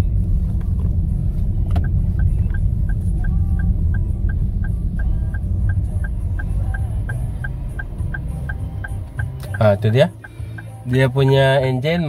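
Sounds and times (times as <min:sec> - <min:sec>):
car engine and road noise: 0:00.0 - 0:12.0
turn signal ticking: 0:00.0 - 0:12.0.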